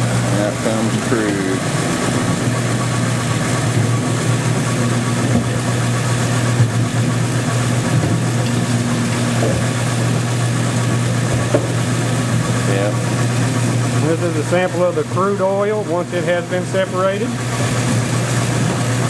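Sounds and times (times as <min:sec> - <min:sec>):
machine motor humming: 0:00.0 - 0:19.0.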